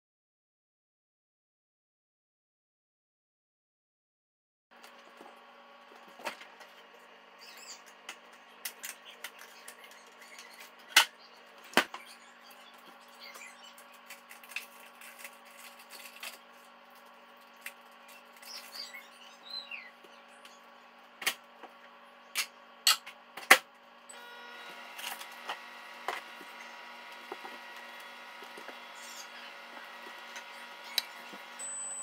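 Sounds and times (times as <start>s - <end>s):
microwave humming: 4.7s - 32.0s.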